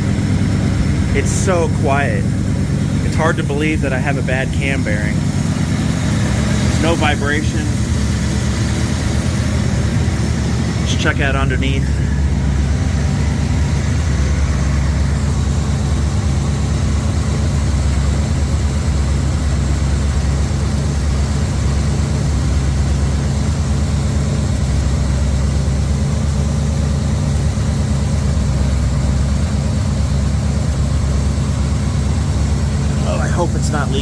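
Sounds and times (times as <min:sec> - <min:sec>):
engine idling quietly: 0:00.0 - 0:34.0.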